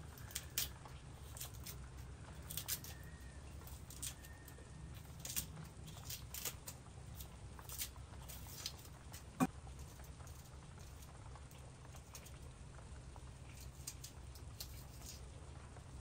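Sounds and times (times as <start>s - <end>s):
onion skin crackling and snipping: 0.0s - 11.1s, 13.4s - 15.4s.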